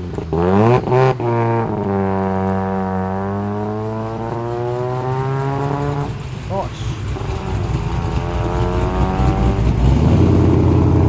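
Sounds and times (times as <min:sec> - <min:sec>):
rotary car engine revving: 0:00.0 - 0:11.0.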